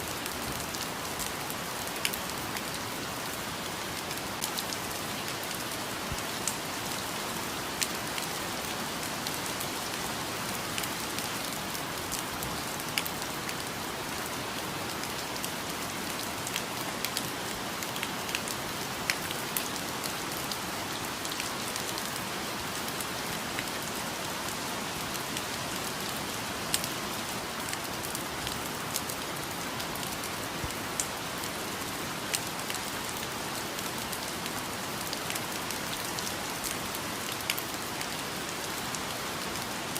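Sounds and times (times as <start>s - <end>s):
raindrops ticking on surfaces: 0.0s - 39.9s
steady rainfall: 0.0s - 39.9s.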